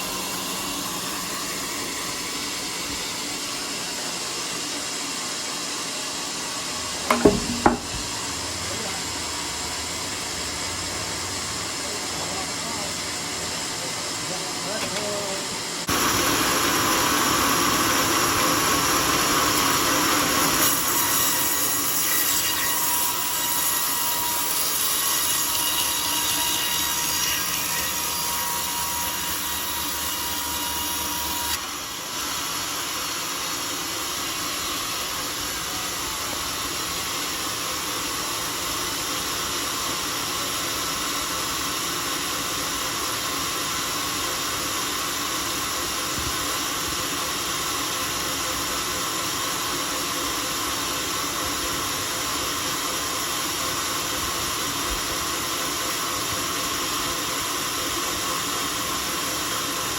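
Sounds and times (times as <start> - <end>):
saw cutting through log: 0.0 - 9.0, 14.8 - 59.9.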